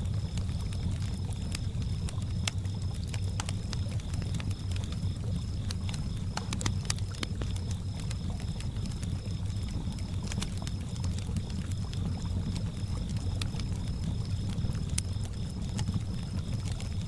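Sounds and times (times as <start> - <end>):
crickets trilling: 0.0 - 17.0
wood fire crackling: 0.0 - 17.0.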